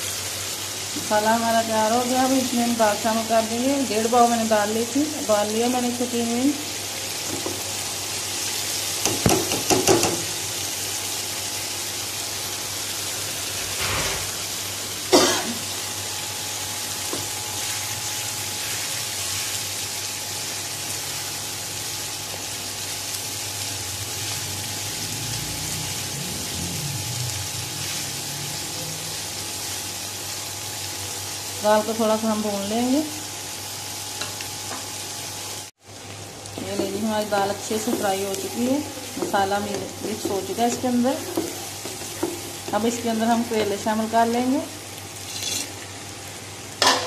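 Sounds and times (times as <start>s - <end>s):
lentils sizzling in a pan: 0.0s - 47.0s.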